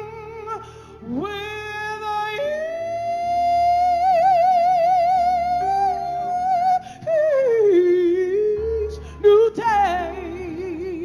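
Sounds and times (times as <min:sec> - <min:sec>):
low musical accompaniment: 0:00.0 - 0:11.0
woman singing gospel: 0:00.0 - 0:11.0.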